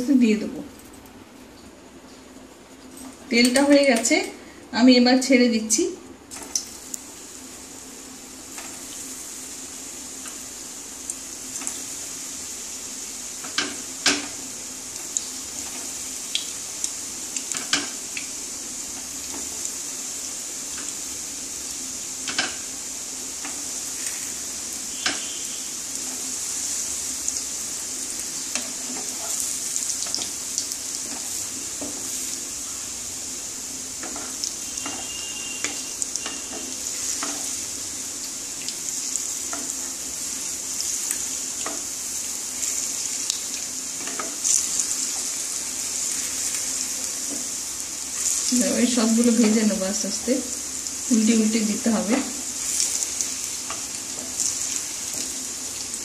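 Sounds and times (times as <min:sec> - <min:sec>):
dough frying in oil: 0:00.0 - 0:56.0.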